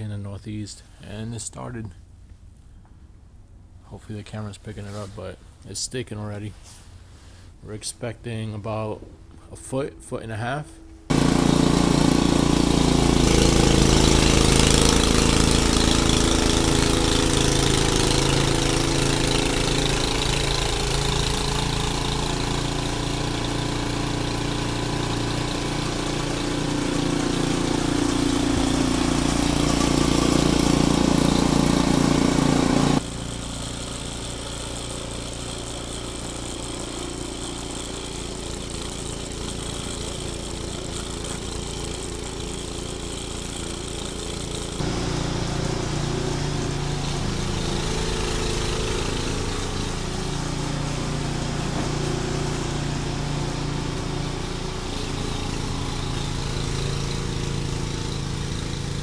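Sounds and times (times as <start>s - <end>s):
snowblower engine running: 8.6s - 59.0s.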